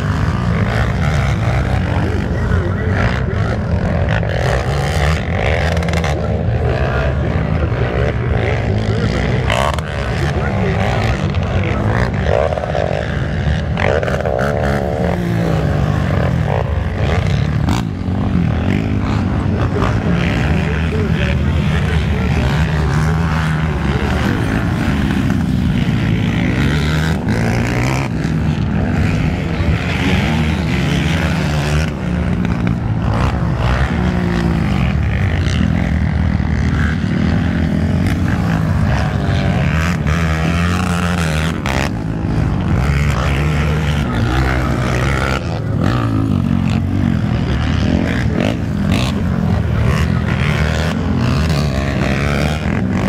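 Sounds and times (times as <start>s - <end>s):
quad engines revving: 0.0s - 53.0s.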